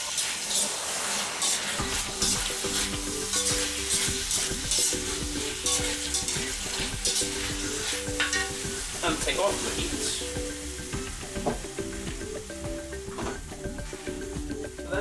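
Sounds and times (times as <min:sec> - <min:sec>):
food sizzling in a wok: 0:00.0 - 0:15.0
spatula stirring and scraping: 0:00.0 - 0:15.0.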